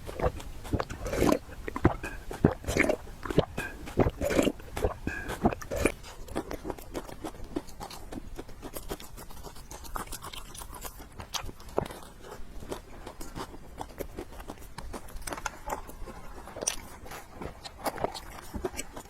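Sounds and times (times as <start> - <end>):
person chewing and biting food: 0.0 - 19.0
wet mouth clicks: 0.0 - 19.0.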